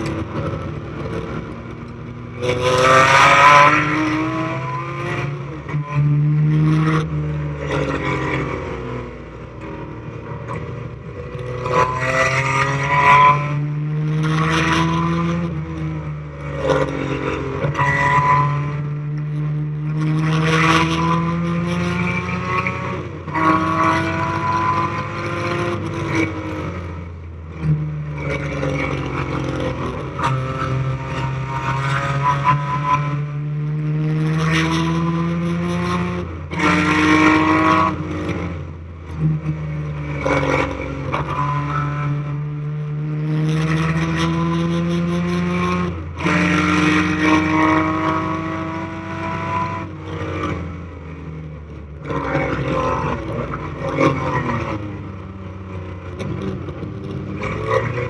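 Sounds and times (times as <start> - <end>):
racing engine revving: 0.0 - 58.0.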